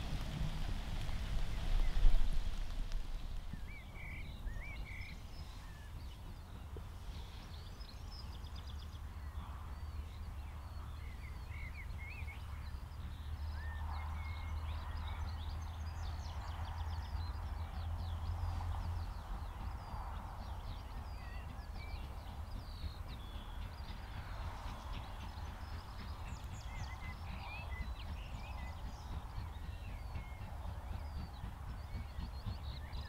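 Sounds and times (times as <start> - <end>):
distant steam locomotive rumble: 0.0 - 33.0
birds singing: 1.0 - 33.0.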